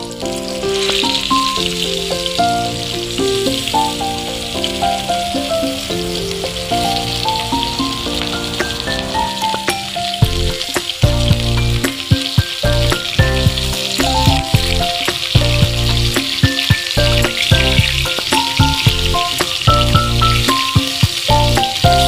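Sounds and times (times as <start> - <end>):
background music with bass: 0.0 - 22.0
fish sizzling in oil: 0.0 - 22.0.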